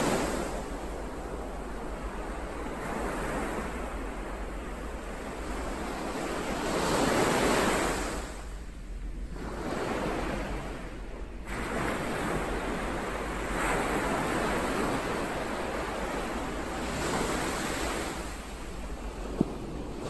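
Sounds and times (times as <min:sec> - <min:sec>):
ocean waves on shore: 0:00.0 - 0:20.0.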